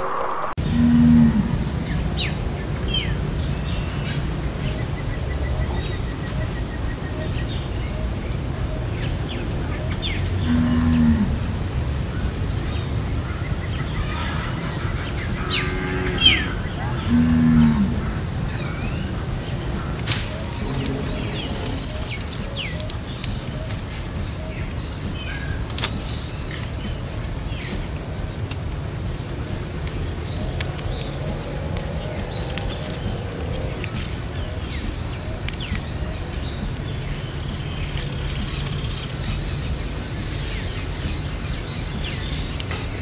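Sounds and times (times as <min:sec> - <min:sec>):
steady low rumble: 0:00.0 - 0:43.0
cattle lowing: 0:00.6 - 0:40.2
small birds chirping: 0:00.6 - 0:43.0.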